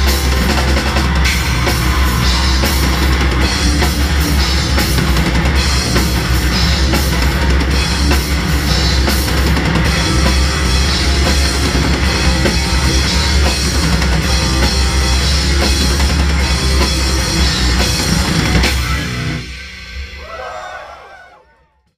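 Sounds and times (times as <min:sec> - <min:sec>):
metal band playing live: 0:00.0 - 0:21.3
drum kit: 0:00.0 - 0:21.8.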